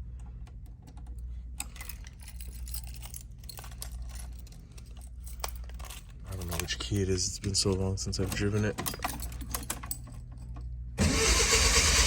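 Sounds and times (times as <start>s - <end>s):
steady low hum: 0.0s - 11.1s
keys jangling and clinking: 0.8s - 10.8s.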